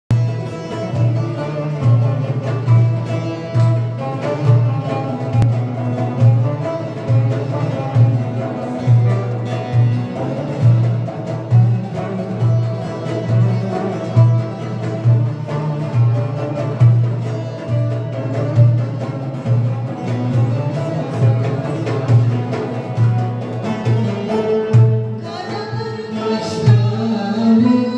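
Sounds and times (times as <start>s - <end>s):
frame drum and darbuka beat: 0.1s - 27.9s
long-necked lutes playing melody: 0.1s - 27.9s.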